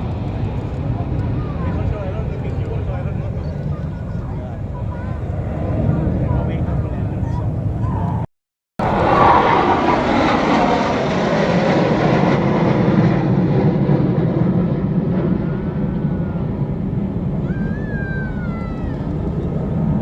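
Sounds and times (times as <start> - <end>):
jet aircraft engine: 0.0 - 20.0.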